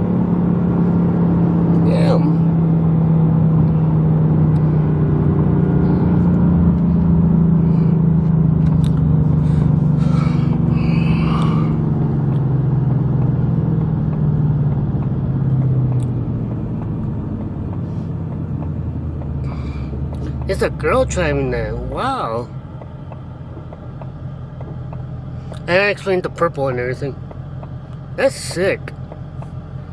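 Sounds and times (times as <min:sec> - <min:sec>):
car engine running: 0:00.0 - 0:29.9
road rumble: 0:00.0 - 0:29.9.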